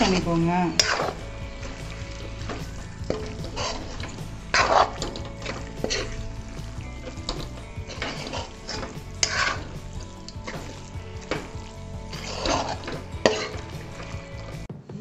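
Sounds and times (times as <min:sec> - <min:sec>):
prawns sizzling in oil: 0:00.0 - 0:14.7
spoon scraping frying pan: 0:00.0 - 0:14.7.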